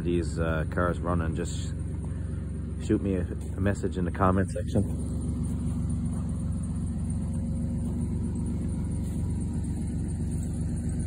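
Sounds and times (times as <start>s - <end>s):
minivan engine idling: 0.0s - 11.0s.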